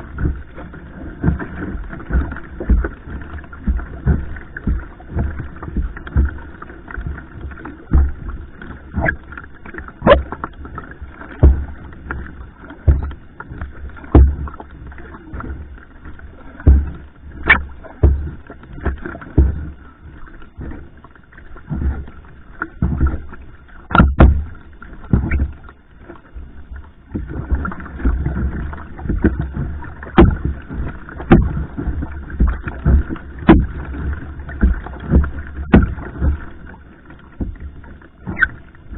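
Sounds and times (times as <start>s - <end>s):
water washing: 0.0s - 21.0s, 21.6s - 38.9s
paddle strokes splashing: 0.0s - 38.9s.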